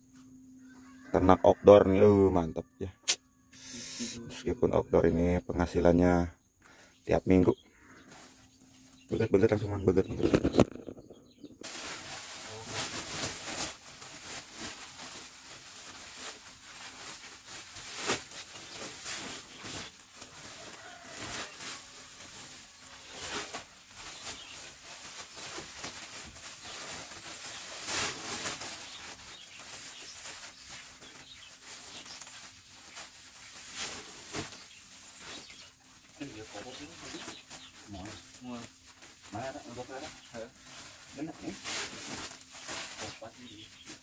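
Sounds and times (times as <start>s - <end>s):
plastic sacks rustling and crinkling: 8.0s - 44.0s.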